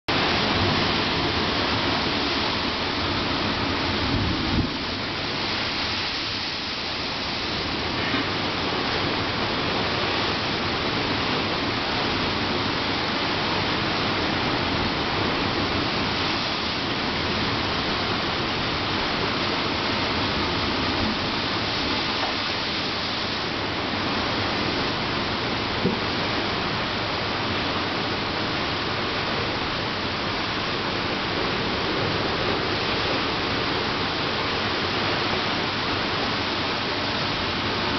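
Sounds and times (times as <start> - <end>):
ocean surf breaking on rocks: 0.1 - 37.9.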